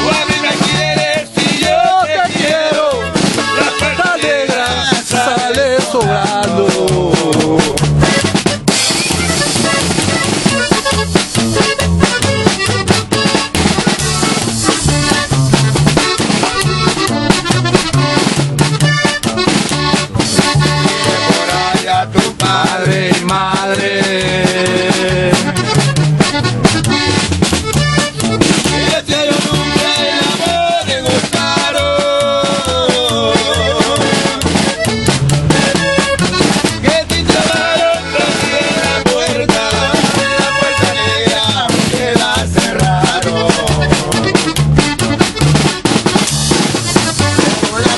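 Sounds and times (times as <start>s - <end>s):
accordion melody: 0.0s - 47.9s
bass line: 0.0s - 47.9s
live band playing a song: 0.0s - 47.9s
steady drum beat: 0.0s - 47.9s.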